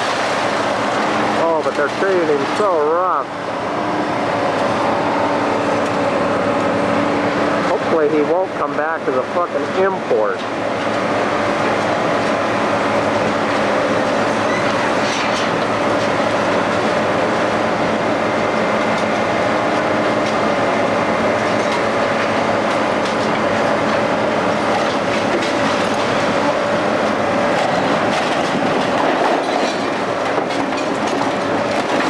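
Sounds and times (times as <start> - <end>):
crane running under load: 0.0 - 32.0.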